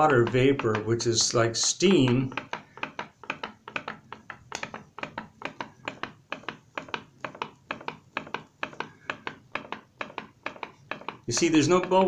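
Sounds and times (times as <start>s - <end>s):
pop-pop boat engine popping: 0.0s - 12.0s.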